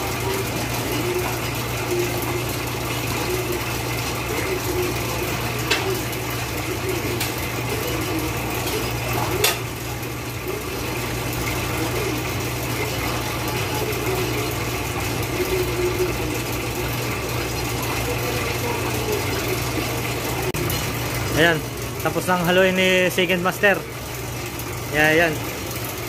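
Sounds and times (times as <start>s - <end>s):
machine motor humming: 0.0s - 26.0s.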